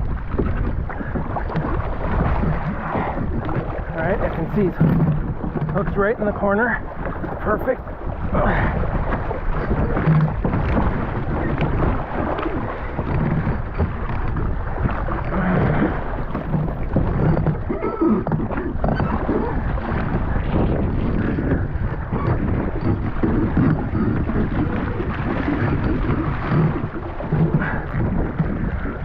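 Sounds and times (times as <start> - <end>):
water sloshing around kayak: 0.0 - 29.0
wind buffeting microphone: 0.0 - 29.0.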